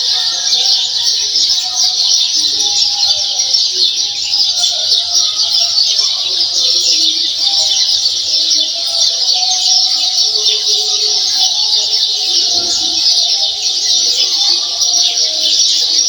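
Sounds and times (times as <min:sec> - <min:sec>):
faint voices: 0:00.0 - 0:16.0
many birds chirping: 0:00.0 - 0:16.0.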